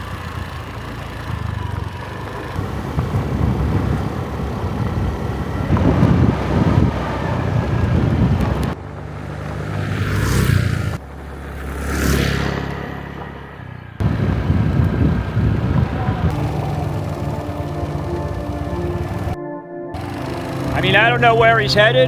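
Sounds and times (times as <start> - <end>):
motorbike riding rumble: 0.0 - 19.4, 20.0 - 22.0
vehicle passing close by: 0.0 - 19.4, 20.0 - 22.0.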